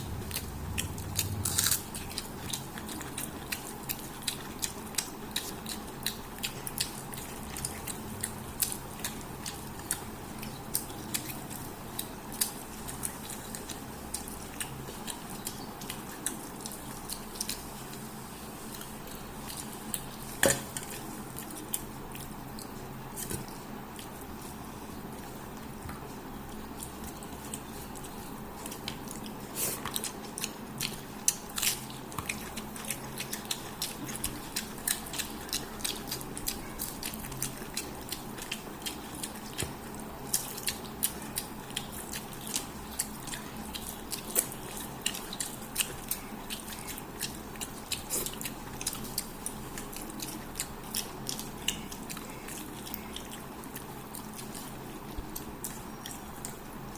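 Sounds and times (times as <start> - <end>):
chewing and biting: 0.0 - 56.9.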